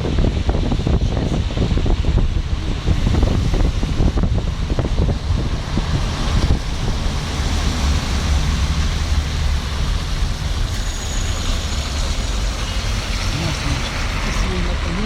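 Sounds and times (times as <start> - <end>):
low vehicle engine hum: 0.0 - 15.0
rain: 0.0 - 15.0
traffic hiss on wet road: 0.0 - 15.0.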